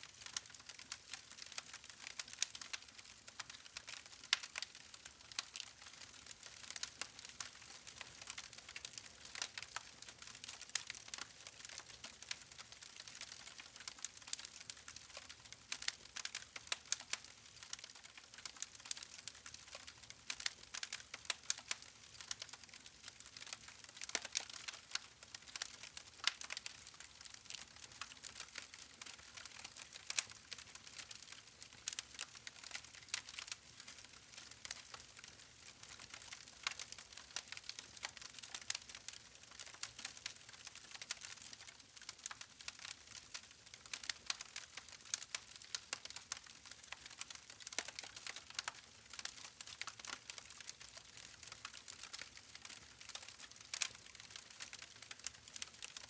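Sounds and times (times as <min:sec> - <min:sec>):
campfire crackling and popping: 0:00.2 - 0:56.0.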